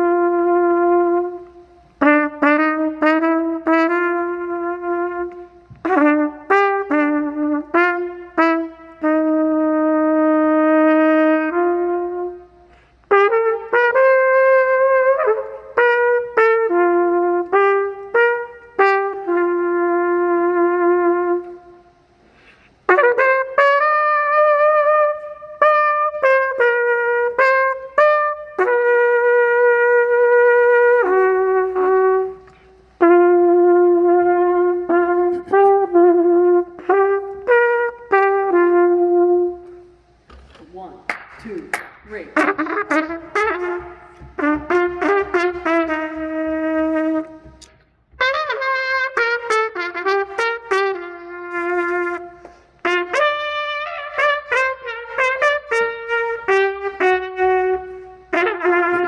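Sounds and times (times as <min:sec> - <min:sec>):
flugelhorn slow melody: 0:00.0 - 0:40.3, 0:42.3 - 0:59.0.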